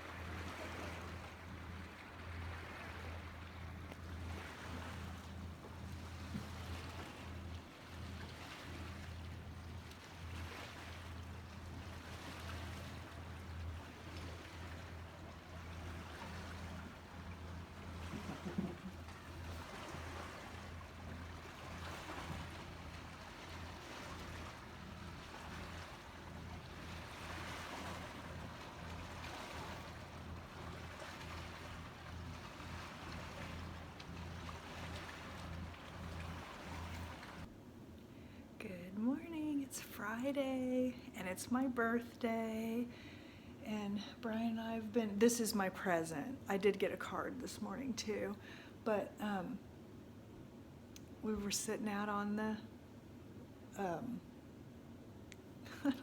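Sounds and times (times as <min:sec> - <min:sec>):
steady low hum: 0:00.0 - 0:56.0
water lapping at shore: 0:00.0 - 0:56.0.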